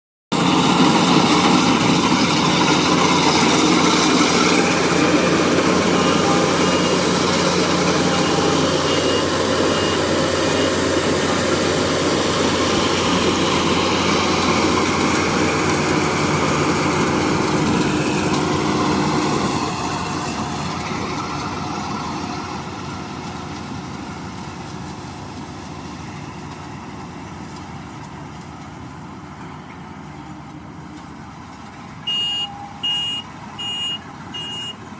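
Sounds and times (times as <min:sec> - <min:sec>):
combine harvester engine drone: 0:00.3 - 0:34.9.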